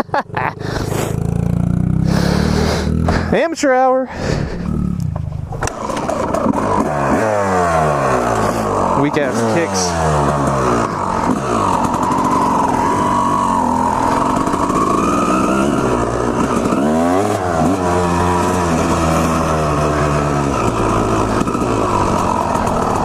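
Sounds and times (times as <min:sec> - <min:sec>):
two-stroke dirt bike engine: 0:00.0 - 0:23.0.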